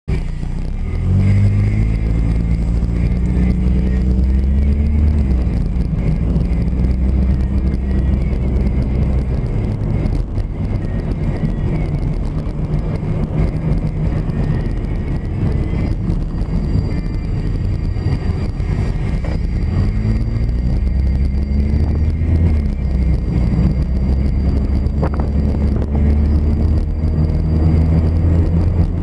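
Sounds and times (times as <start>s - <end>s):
car engine rumble: 0.1s - 29.0s
road noise: 0.1s - 29.0s.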